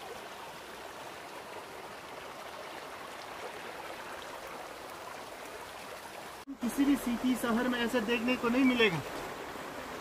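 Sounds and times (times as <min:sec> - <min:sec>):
stream flowing over stones: 0:00.0 - 0:10.0.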